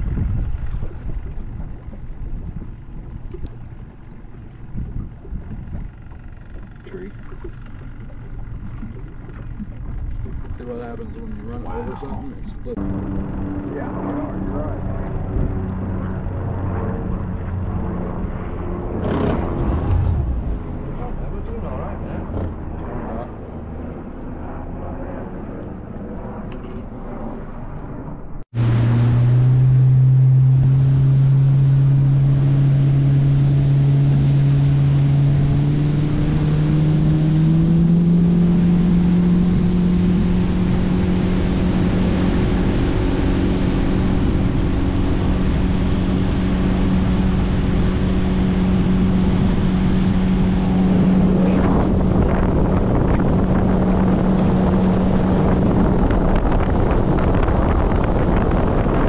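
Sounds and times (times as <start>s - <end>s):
boat motor running: 0.0s - 25.8s, 28.5s - 59.0s
water rushing along hull: 0.0s - 26.5s, 28.5s - 59.0s
wind buffeting microphone: 0.0s - 59.0s.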